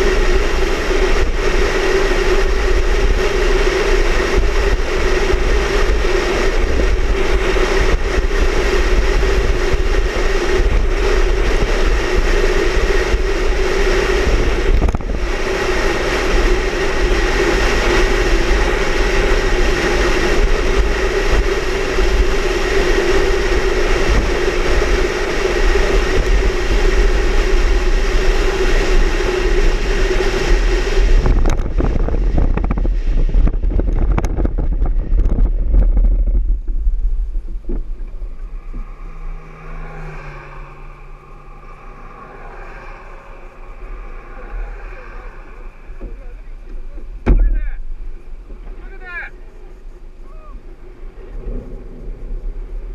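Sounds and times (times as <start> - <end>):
droning hum: 0.0 - 52.9
storm wind buffeting microphone: 0.0 - 52.9.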